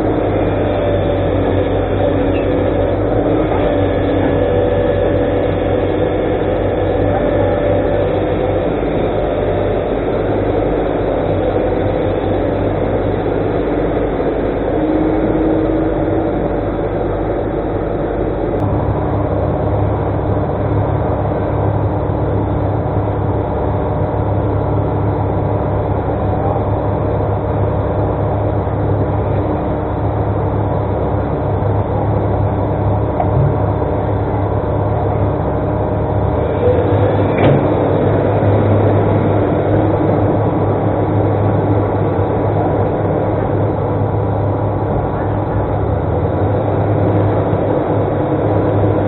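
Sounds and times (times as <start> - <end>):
excavator engine running: 0.0 - 49.0.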